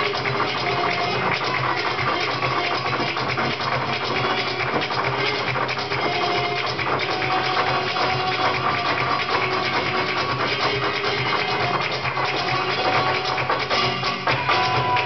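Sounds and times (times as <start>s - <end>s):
cajon beating: 0.0s - 15.0s
hand clapping: 0.0s - 15.0s.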